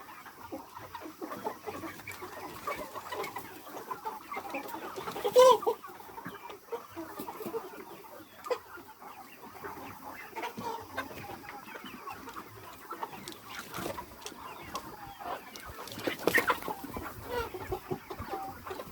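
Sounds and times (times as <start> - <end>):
chickens clucking: 0.0 - 18.9
loud chicken calls: 0.0 - 18.9.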